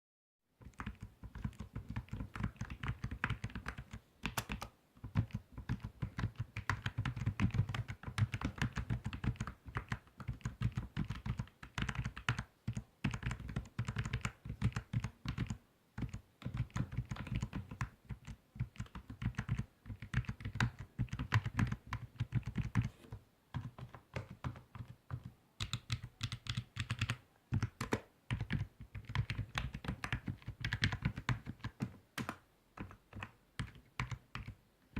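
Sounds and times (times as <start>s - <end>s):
typing on computer keyboard: 0.6s - 22.9s, 23.5s - 34.6s.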